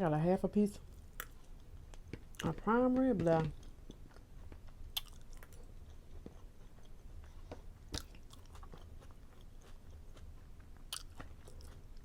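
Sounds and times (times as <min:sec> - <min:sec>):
person chewing food: 0:00.9 - 0:02.6, 0:03.5 - 0:12.0.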